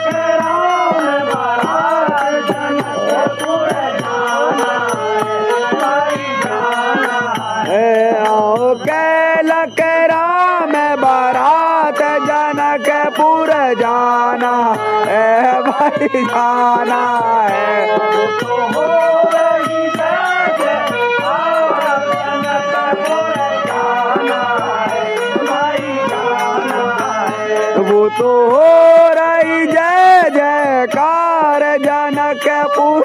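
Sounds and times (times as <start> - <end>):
hand drum beat: 0.0 - 33.0
men singing devotional song: 0.0 - 33.0.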